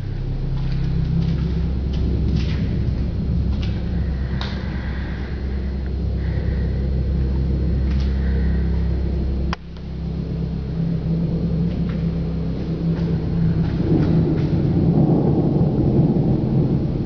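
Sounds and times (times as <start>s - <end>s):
faint hum: 0.0s - 17.0s
low rumble: 0.0s - 17.0s.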